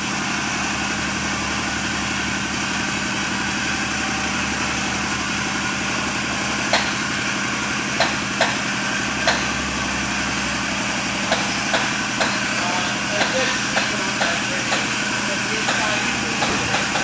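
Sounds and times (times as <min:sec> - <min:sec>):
hangar door motor running: 0:00.0 - 0:17.0.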